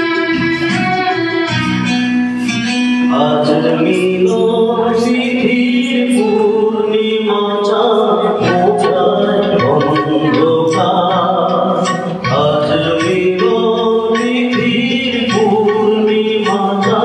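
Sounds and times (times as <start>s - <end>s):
guitar accompaniment: 0.0s - 17.0s
man singing into a microphone: 2.6s - 17.0s.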